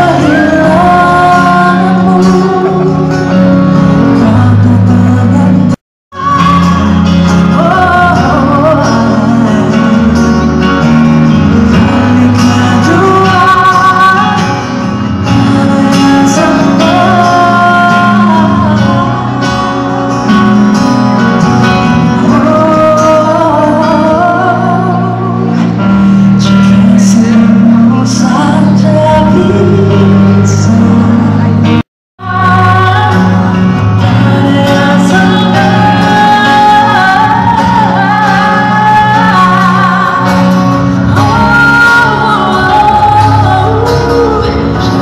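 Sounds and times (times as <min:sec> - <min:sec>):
woman singing: 0:00.0 - 0:20.4, 0:22.1 - 0:45.0
band playing through a pa: 0:00.0 - 0:45.0.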